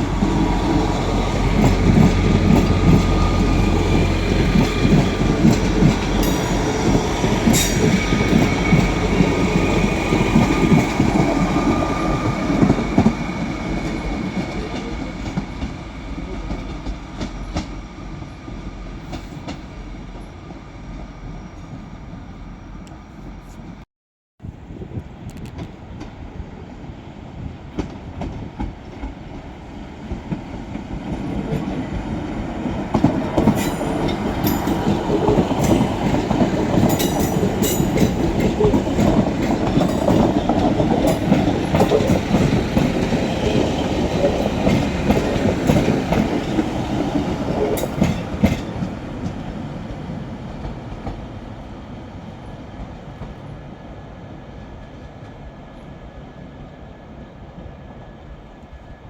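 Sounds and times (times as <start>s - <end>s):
train rumble: 0.0s - 23.8s, 24.4s - 59.0s.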